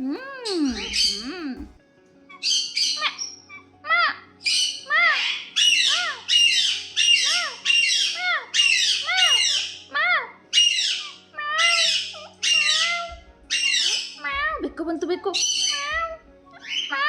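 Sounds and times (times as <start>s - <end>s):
parrot squawking: 0.4s - 1.4s, 2.3s - 17.0s.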